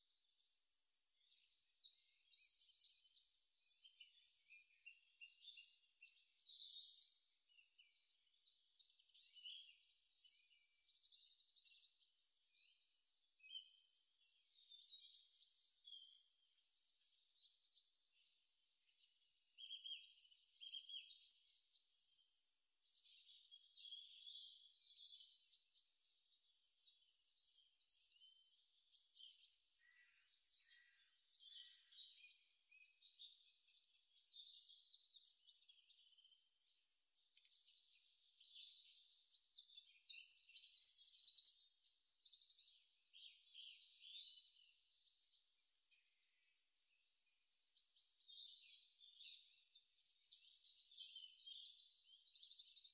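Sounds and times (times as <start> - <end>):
small birds chirping and trilling: 0.0 - 52.9.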